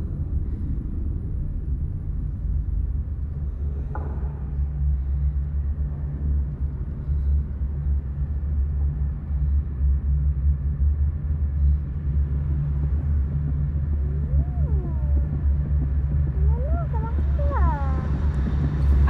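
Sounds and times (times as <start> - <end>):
deep low rumbling drone: 0.0 - 19.0.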